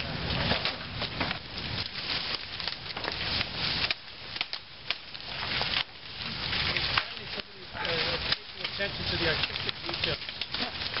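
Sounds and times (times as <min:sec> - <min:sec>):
dry leaves crunching: 0:00.0 - 0:11.0
twigs snapping: 0:00.0 - 0:11.0.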